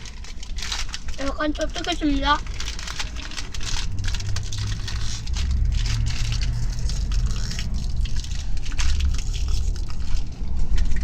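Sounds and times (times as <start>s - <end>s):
biscuits pouring into a tub: 0.0s - 11.0s
packet crinkling: 0.0s - 11.0s.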